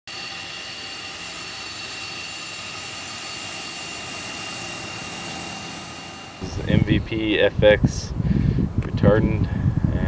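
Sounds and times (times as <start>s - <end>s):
jet engines running with whine: 0.1s - 9.8s.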